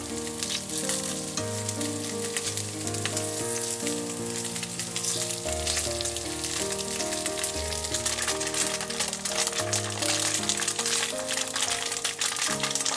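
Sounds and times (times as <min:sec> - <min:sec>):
background music: 0:00.0 - 0:12.9
tofu sizzling in hot oil: 0:00.0 - 0:12.9.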